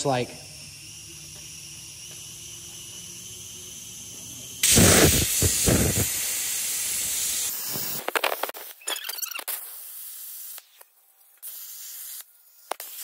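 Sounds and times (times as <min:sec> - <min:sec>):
plasma arc crackling: 0:00.0 - 0:10.8
plasma cutter hissing: 0:00.0 - 0:10.8, 0:11.4 - 0:13.0.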